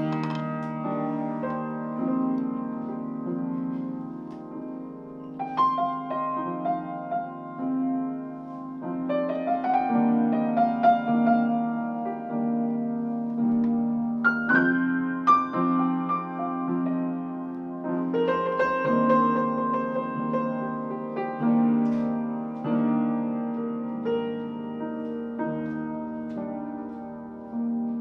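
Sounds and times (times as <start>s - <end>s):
improvised piano chords: 0.0s - 28.0s.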